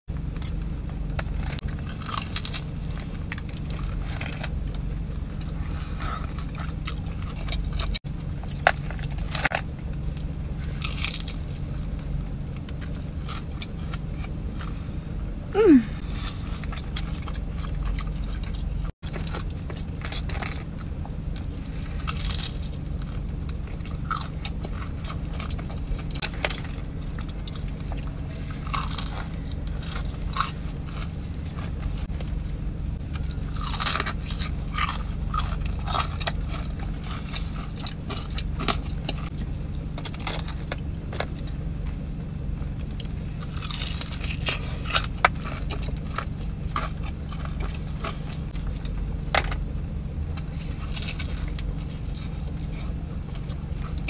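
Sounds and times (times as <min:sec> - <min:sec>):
low hum: 0:00.1 - 0:54.0
crunching fried food: 0:00.2 - 0:15.0, 0:16.0 - 0:54.0.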